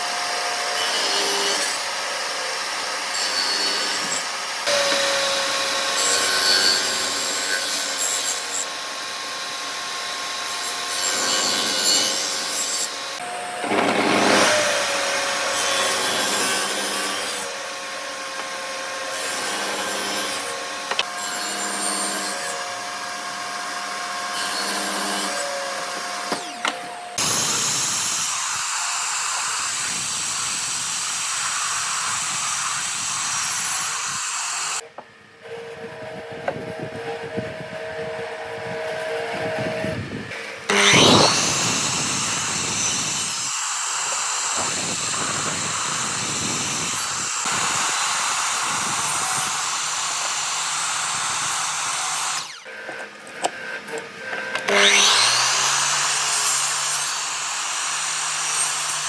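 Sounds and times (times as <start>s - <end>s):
power tool motor whine: 0.0s - 59.0s.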